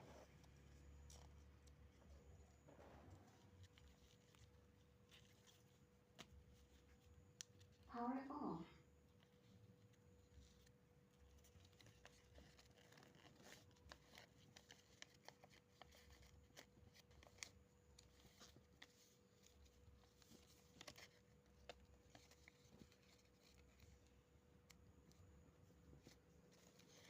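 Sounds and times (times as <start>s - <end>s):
paper crinkling and rustling: 0.2s - 7.9s, 9.1s - 27.0s.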